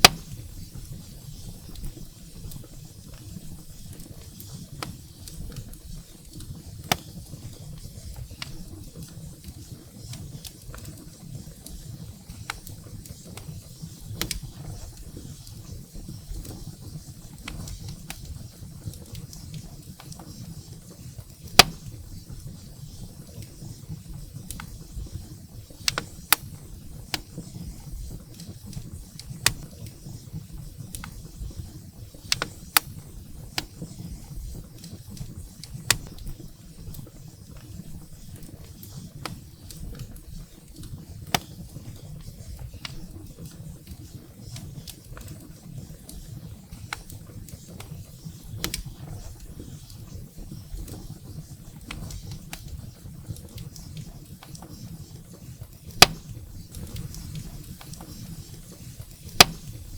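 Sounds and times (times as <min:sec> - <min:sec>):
firewood crackling and popping: 0:00.0 - 0:59.9
low rumble of flames: 0:00.0 - 0:59.9.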